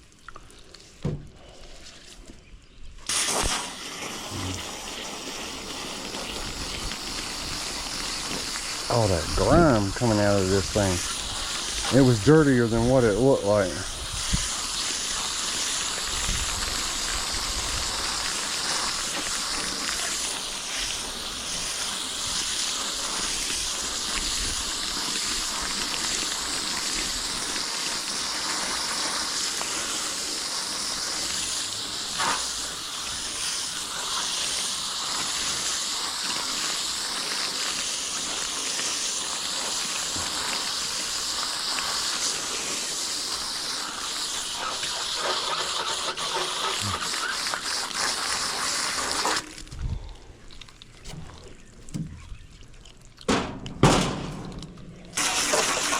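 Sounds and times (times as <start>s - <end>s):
water spray hissing: 3.0s - 50.1s, 55.1s - 55.9s.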